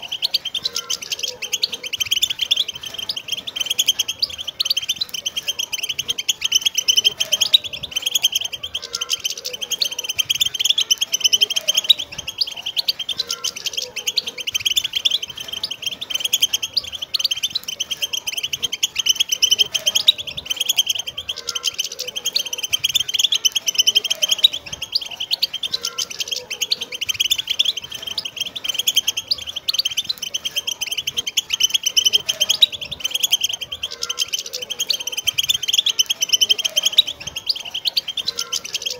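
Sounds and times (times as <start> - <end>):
flock of finches twittering: 0.0 - 38.9.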